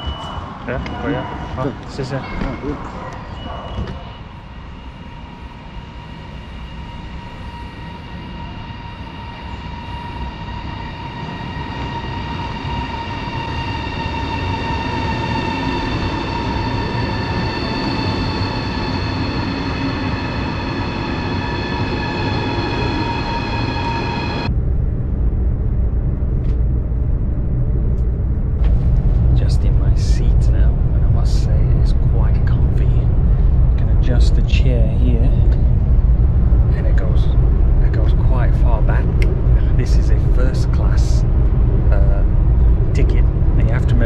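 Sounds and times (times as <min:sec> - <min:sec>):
carriage low rumble: 0:00.0 - 0:44.0
electric train whine: 0:00.0 - 0:44.0.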